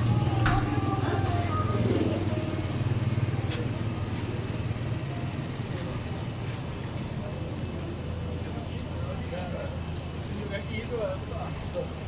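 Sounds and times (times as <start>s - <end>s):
street traffic noise: 0.0s - 12.0s
vehicle engine humming: 0.0s - 12.0s.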